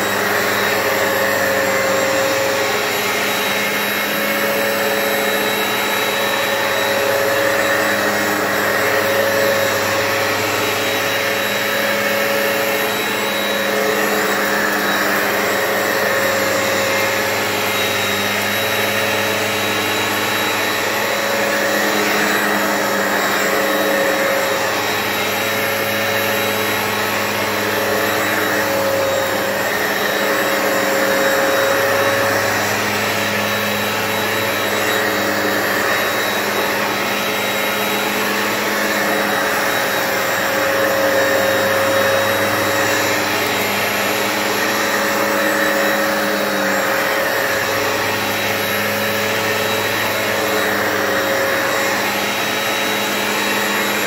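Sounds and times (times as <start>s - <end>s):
carpet cleaner motor humming: 0.0s - 54.0s.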